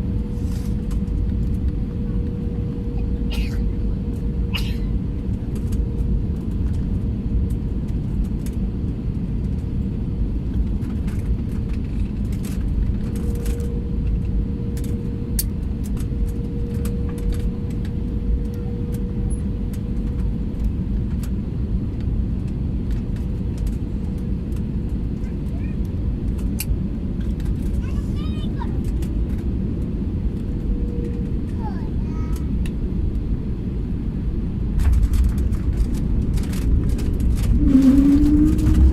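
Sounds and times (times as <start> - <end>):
airliner engine rumble: 0.0 - 38.9
constant hum: 0.0 - 38.9.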